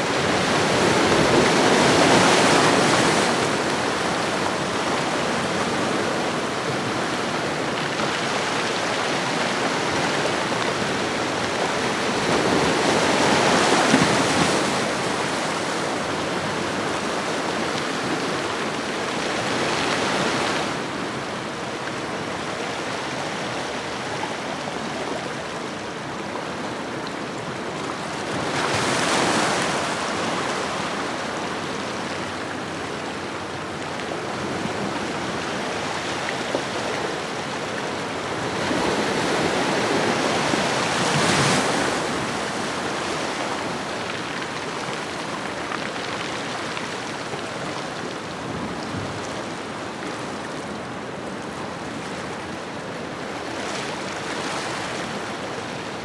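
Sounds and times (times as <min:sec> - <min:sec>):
waves breaking on shore: 0:00.0 - 0:26.7, 0:27.5 - 0:56.0.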